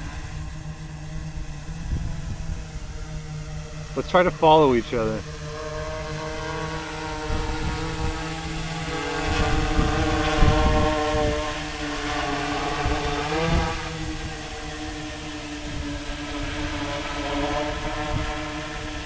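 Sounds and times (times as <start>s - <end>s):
drone motors buzzing: 0.0s - 19.0s.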